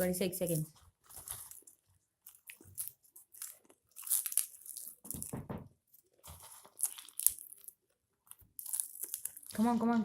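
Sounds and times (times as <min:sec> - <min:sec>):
popcorn crunching and chewing: 0:00.0 - 0:10.0.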